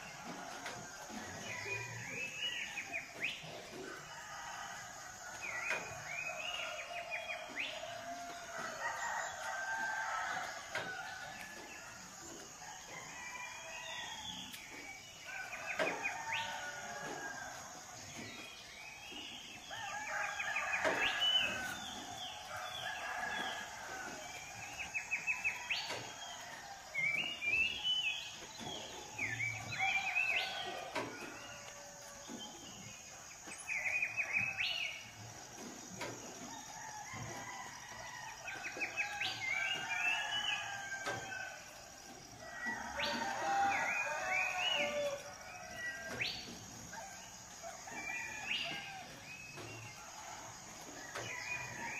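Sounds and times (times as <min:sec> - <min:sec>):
roosters crowing: 0:00.0 - 0:51.9
small birds chirping and trilling: 0:00.0 - 0:51.9.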